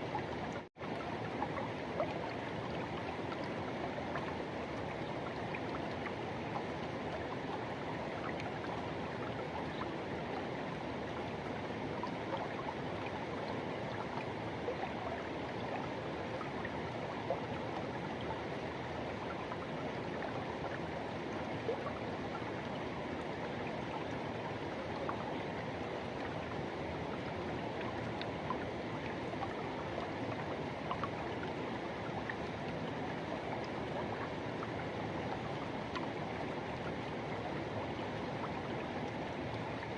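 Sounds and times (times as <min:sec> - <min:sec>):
water splashes and gurgles: 0:00.0 - 0:39.9.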